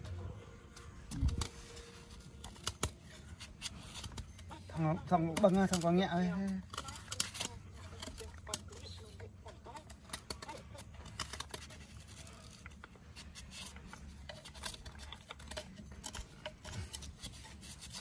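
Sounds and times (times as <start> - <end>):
knife scraping bamboo: 0.8 - 18.0.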